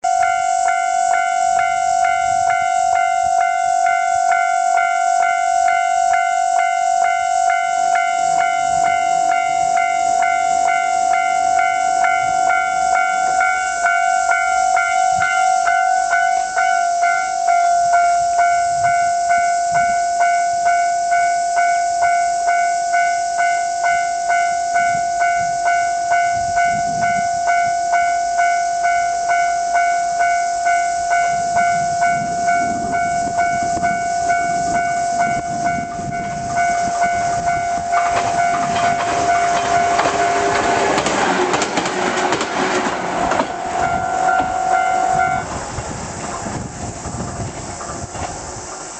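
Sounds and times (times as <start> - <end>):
electric train passing: 0.0 - 48.9
level crossing bell ringing: 0.1 - 40.7, 43.4 - 45.5.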